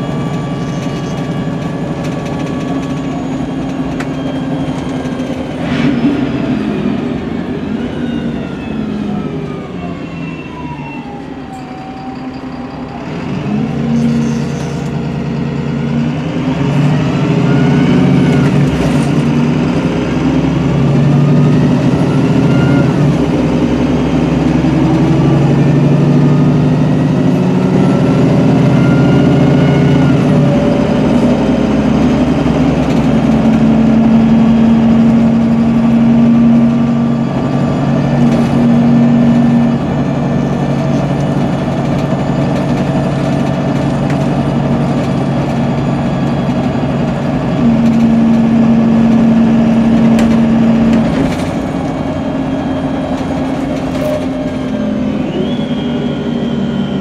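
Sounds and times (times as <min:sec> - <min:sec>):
bus diesel engine drone: 0:00.0 - 0:57.0
gearbox whine: 0:00.0 - 0:57.0.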